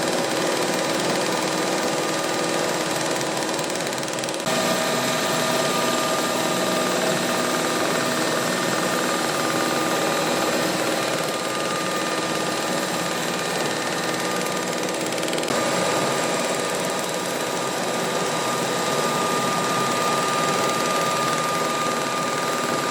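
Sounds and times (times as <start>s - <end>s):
machine hums: 4.4s - 22.9s.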